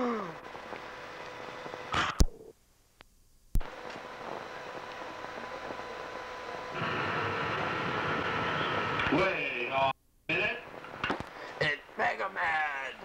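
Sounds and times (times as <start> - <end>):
faint hum: 0.0 - 13.0
tape hiss: 0.0 - 13.0.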